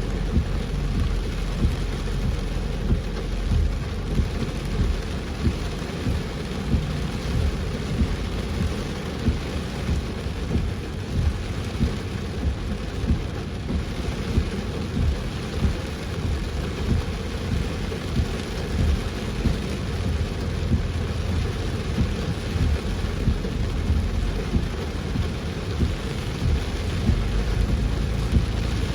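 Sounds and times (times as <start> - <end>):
continuous low rumble: 0.0 - 28.9
heavy rain pouring: 0.0 - 28.9
low thuds: 0.0 - 28.9.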